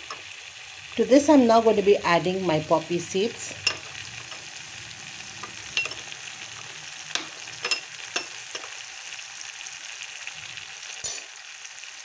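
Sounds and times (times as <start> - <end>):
gravy sizzling in a pan: 0.0 - 12.0.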